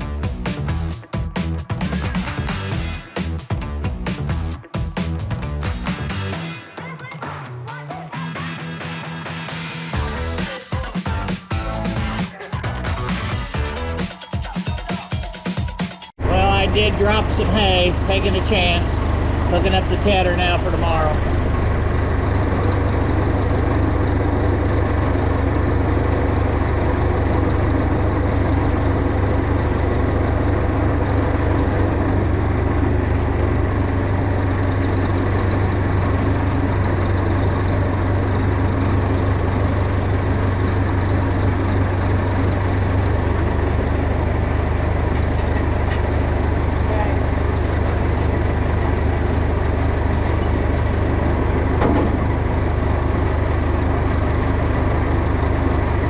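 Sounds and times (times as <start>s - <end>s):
tractor engine droning: 8.0s - 14.0s, 16.2s - 56.0s.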